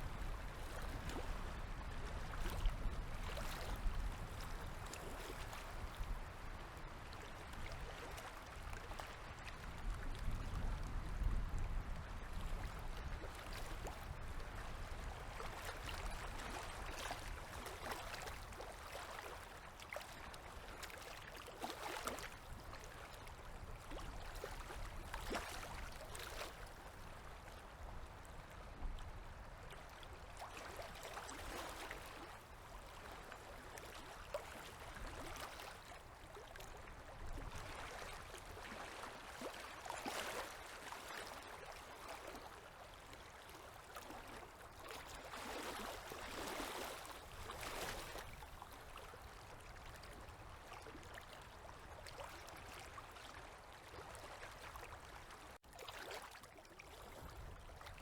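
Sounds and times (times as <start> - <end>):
small river waves lapping: 0.0 - 58.0.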